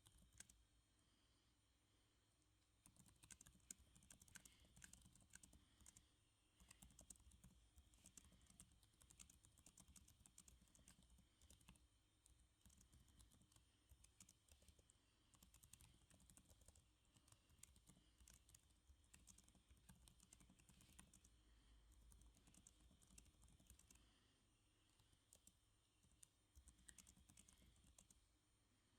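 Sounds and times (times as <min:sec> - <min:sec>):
faint typing on keyboard: 0:00.0 - 0:01.4, 0:02.4 - 0:28.4.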